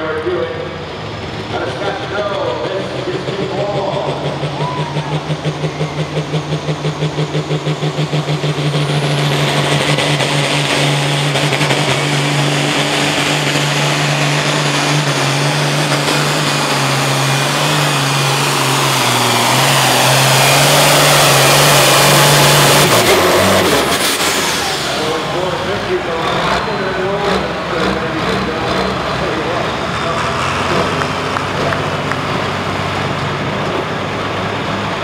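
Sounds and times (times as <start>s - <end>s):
tractor diesel engine at full throttle: 0.0s - 35.0s.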